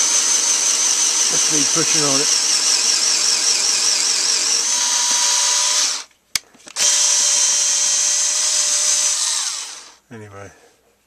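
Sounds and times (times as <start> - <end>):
cordless screwdriver running: 0.0 - 6.1, 6.7 - 10.0.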